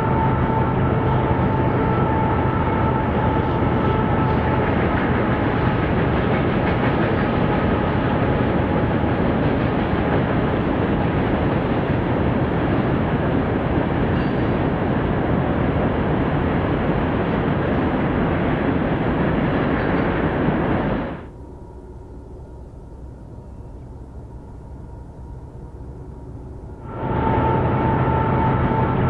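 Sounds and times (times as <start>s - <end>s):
freight train rumbling by: 0.0s - 29.0s.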